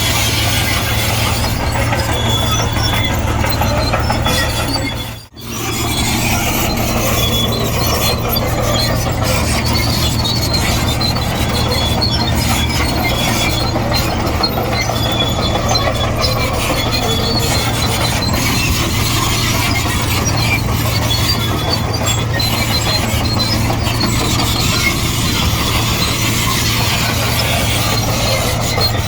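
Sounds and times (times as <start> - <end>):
bulldozer diesel engine running: 0.0 - 29.0
steel tracks squeaking and ticking: 0.0 - 29.0.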